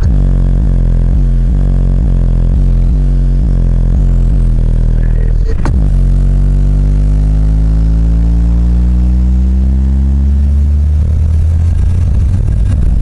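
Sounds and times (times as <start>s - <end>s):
heavy electronic bass music: 0.0s - 13.0s
rising bass tone: 0.0s - 13.0s.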